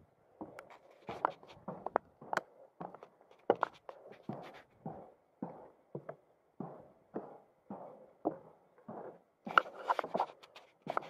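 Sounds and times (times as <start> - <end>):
footsteps on a trail: 0.4 - 11.0.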